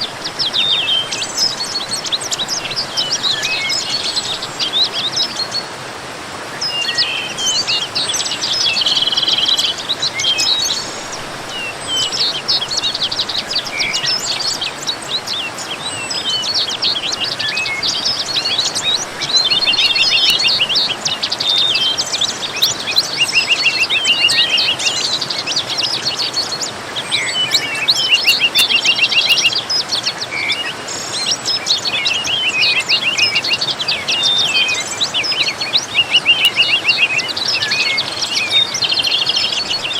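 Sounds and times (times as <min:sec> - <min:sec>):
falling water rushing: 0:00.0 - 0:39.9
songbirds singing and chirping: 0:00.0 - 0:39.9.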